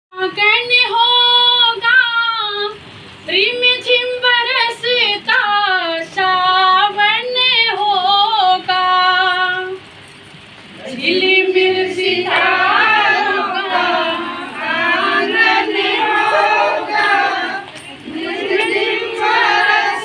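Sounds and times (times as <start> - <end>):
woman singing unaccompanied: 0.1 - 9.9, 10.8 - 20.0.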